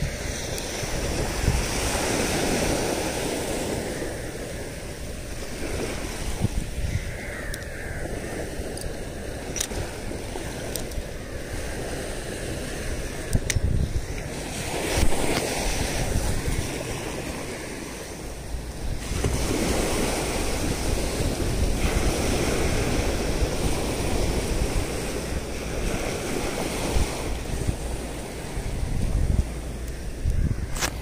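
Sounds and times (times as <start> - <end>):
small waves breaking on sand: 0.0 - 31.0
wind rumbling on microphone: 0.0 - 31.0.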